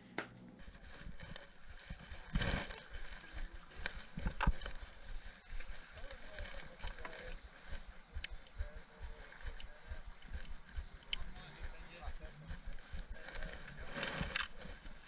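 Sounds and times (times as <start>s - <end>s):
handling clicks and rustles: 0.6s - 15.0s.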